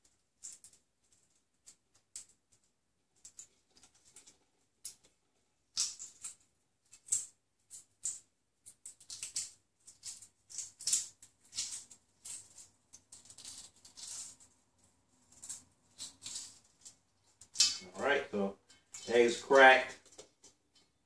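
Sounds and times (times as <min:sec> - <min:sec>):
eggshell crackling: 0:00.0 - 0:21.0.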